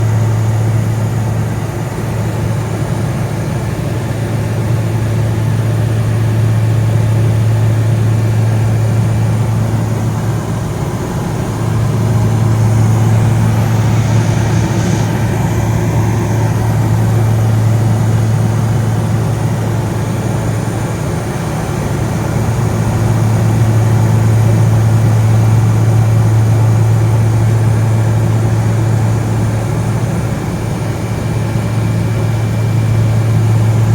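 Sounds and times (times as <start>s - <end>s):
light aircraft engine droning: 0.0s - 33.9s.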